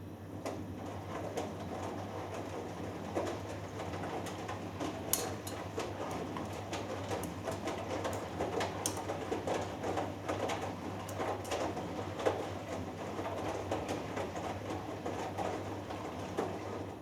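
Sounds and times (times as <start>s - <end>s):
washing machine motor hum: 0.1s - 17.0s
laundry sloshing in washing machine: 0.6s - 17.0s.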